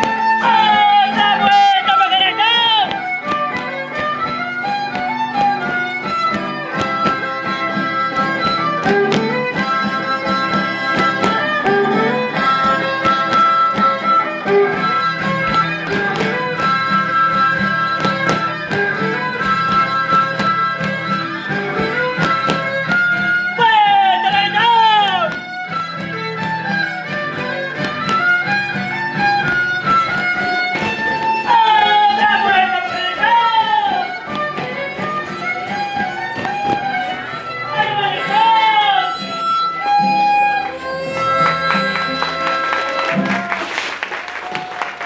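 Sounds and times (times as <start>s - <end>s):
violin melody: 0.0s - 43.5s
strummed guitar: 0.0s - 43.7s.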